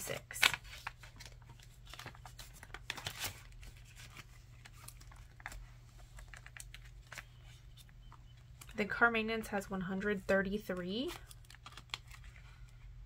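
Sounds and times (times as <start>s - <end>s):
banknotes and plastic rustling: 0.0s - 13.0s.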